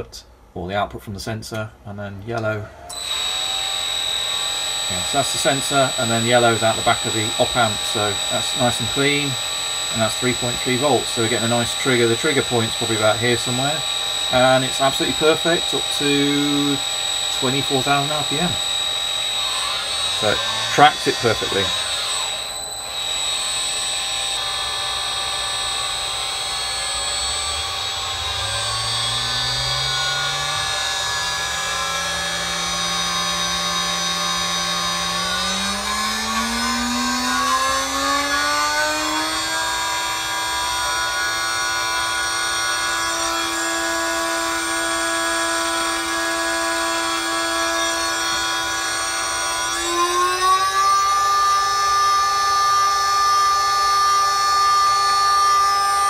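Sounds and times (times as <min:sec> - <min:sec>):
steady high-pitched whine: 0:00.0 - 0:56.0
spindle motor whine speeding up: 0:02.4 - 0:56.0.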